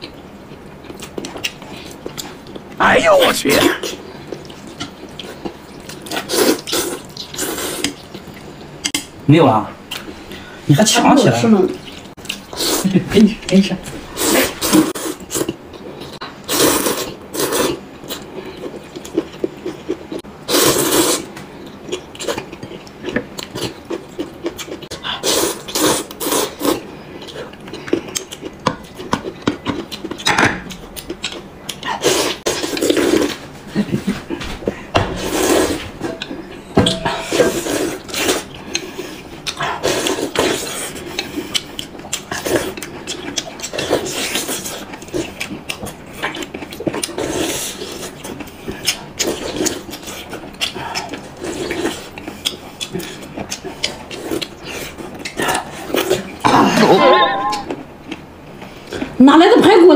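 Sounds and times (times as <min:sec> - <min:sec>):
chewing: 0:00.0 - 0:02.8, 0:03.8 - 0:09.1, 0:11.7 - 0:13.6, 0:14.2 - 0:20.3, 0:21.3 - 0:56.5, 0:57.5 - 0:59.2.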